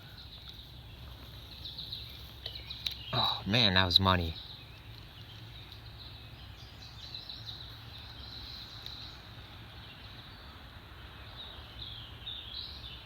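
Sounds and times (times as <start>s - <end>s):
insects and birds chirping: 0.0s - 13.0s.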